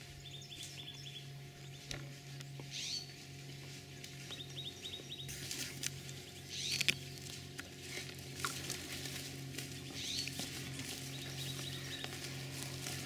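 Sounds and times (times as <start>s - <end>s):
steady low hum: 0.0s - 13.0s
footsteps in grass: 0.5s - 13.0s.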